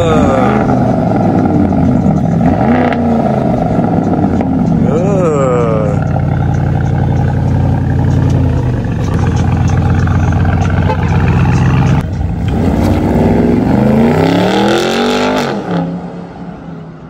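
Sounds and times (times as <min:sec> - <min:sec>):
car engine deep exhaust drone: 0:00.0 - 0:17.0.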